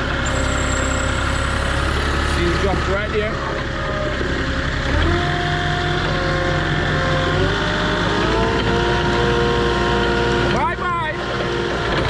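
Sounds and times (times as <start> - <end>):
heavy vehicle engine revving: 0.0 - 12.0.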